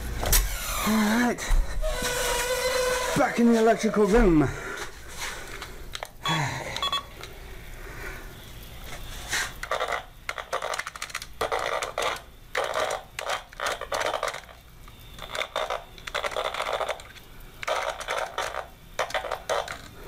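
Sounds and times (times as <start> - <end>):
crackling static and hum: 0.0 - 20.0.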